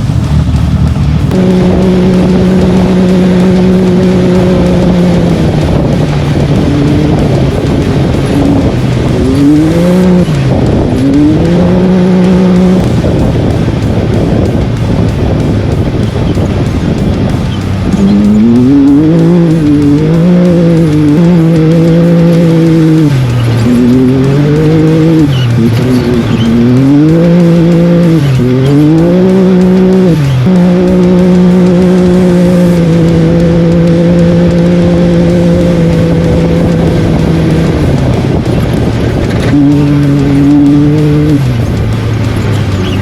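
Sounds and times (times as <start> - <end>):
race vehicle engine revving: 0.0 - 43.0
tyre and terrain noise: 0.0 - 43.0.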